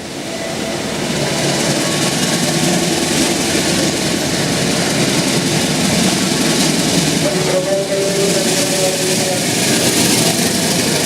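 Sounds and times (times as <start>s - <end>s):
diesel locomotive running: 0.0s - 11.0s.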